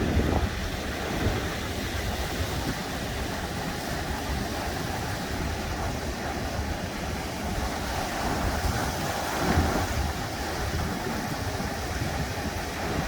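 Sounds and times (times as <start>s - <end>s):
sea surf washing ashore: 0.0s - 13.0s
wind buffeting the microphone: 0.0s - 13.0s.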